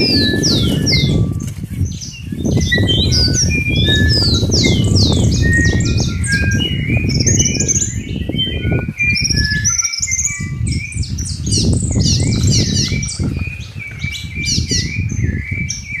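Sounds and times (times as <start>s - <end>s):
chorus of birds chirping: 0.0s - 16.0s.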